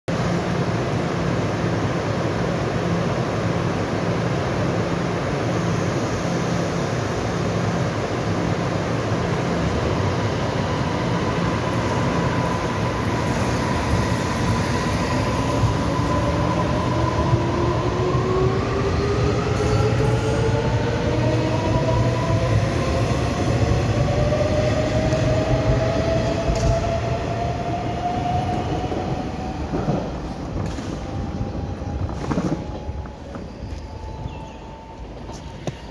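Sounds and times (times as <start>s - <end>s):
train wheels rumbling on rail: 0.1s - 35.9s.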